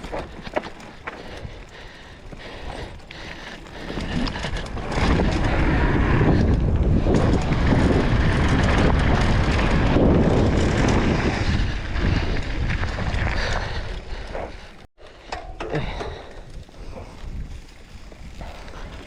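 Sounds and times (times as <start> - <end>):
wind buffeting microphone: 0.0 - 14.8, 15.8 - 19.0
tyres rumbling on trail: 0.0 - 19.0.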